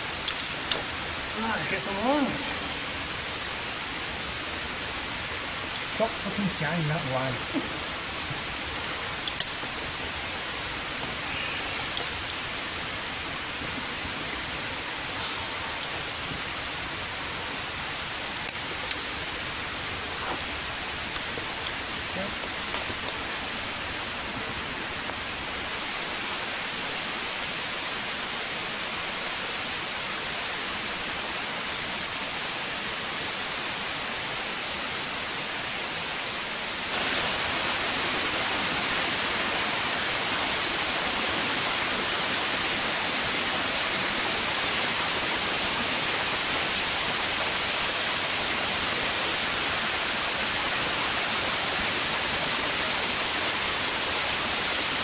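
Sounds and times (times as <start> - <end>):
steady rushing hiss: 0.0 - 55.0.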